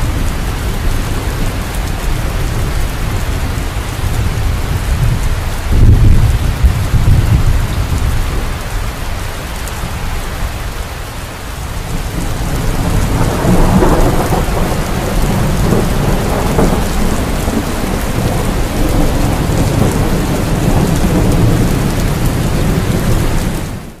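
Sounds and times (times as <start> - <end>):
low rolling thunder: 0.0 - 9.0, 11.6 - 24.0
heavy rain: 0.0 - 24.0.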